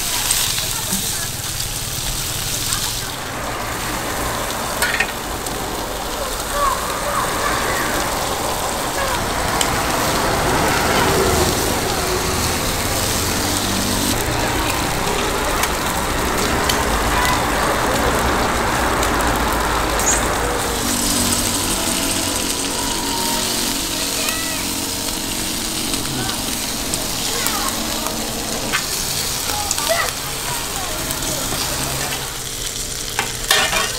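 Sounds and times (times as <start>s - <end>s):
food sizzling on a griddle: 0.0s - 33.9s
low rumble: 2.0s - 30.8s.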